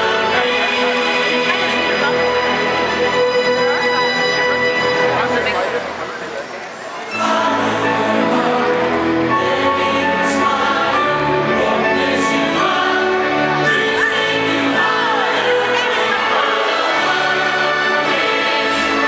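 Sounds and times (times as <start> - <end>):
soundtrack music with choir singing: 0.0 - 5.4, 7.0 - 19.0.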